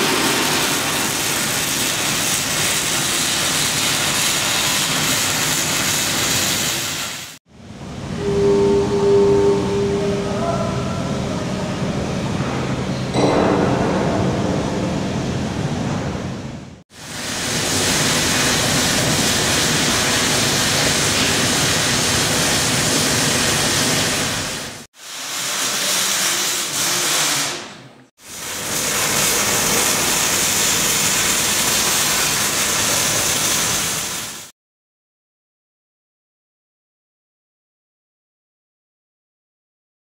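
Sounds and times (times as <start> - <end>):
hissing industrial noise: 0.0 - 34.5.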